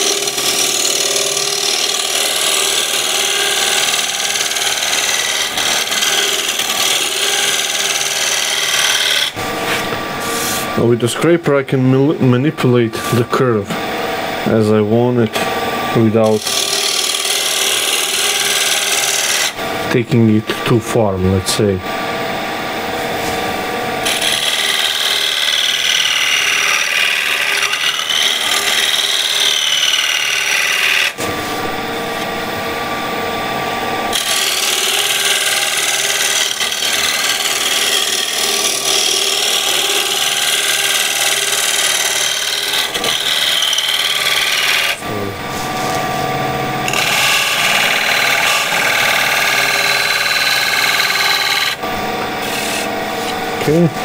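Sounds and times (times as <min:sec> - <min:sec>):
lathe scraper cutting wood: 0:00.0 - 0:20.3, 0:22.9 - 0:32.3, 0:34.1 - 0:54.0.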